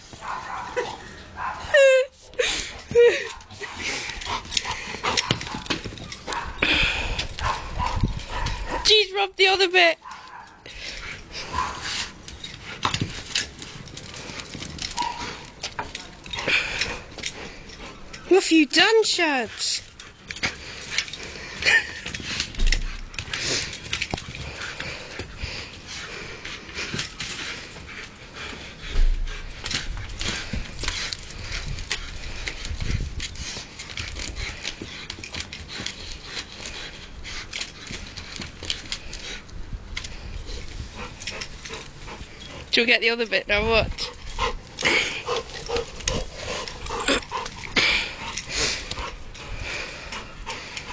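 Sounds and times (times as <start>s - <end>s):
dog paws clicking on paving: 0.0s - 50.9s.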